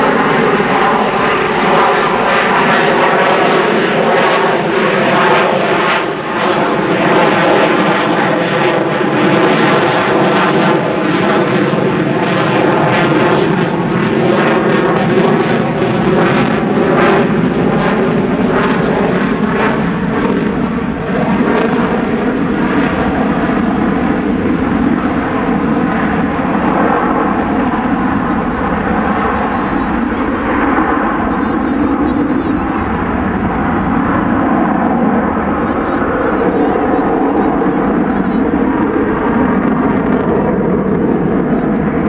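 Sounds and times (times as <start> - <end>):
jet roar with crackle: 0.0 - 42.0.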